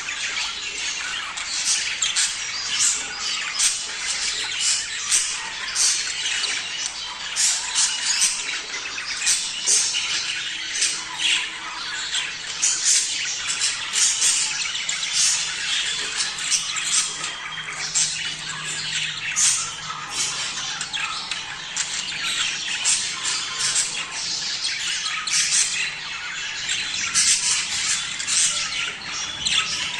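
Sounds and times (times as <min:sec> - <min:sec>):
flock of budgerigars chirping: 0:00.0 - 0:29.9.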